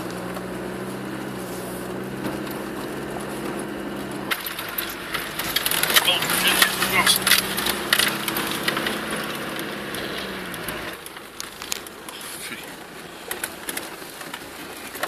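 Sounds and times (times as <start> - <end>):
diesel engine under load: 0.0 - 15.0
vehicle knocks and rattles: 0.0 - 15.0.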